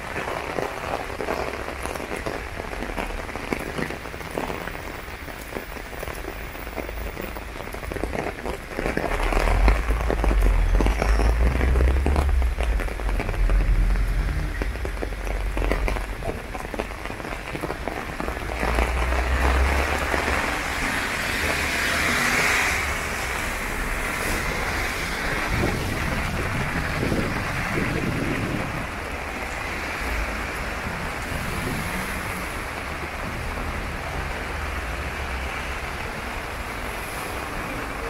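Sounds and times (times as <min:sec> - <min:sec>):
car tyres hissing on wet road: 0:00.0 - 0:38.0
heavy rain on an umbrella: 0:00.0 - 0:38.0.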